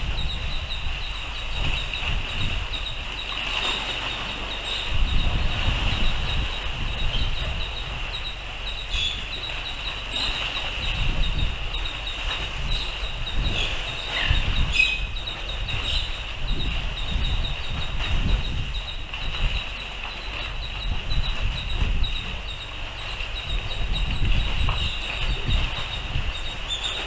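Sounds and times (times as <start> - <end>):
wind gusting over microphone: 0.0 - 27.0.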